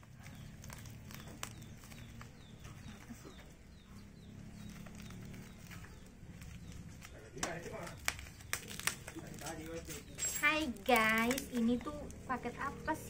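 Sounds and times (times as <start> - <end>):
cardboard parcel being opened: 0.0 - 12.2
bird chirping: 0.0 - 13.0.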